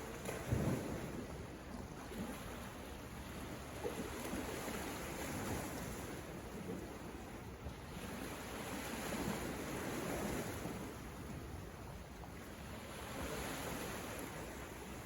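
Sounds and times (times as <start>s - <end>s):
sea surf washing ashore: 0.0s - 15.0s.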